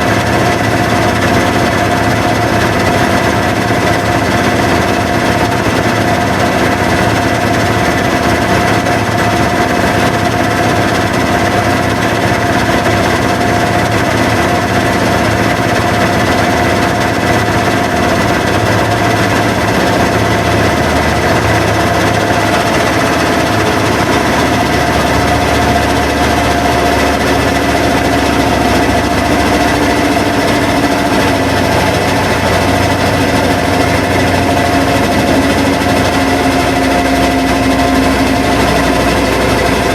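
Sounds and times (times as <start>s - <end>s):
constant machine whine: 0.0s - 39.9s
washing machines running: 0.0s - 39.9s.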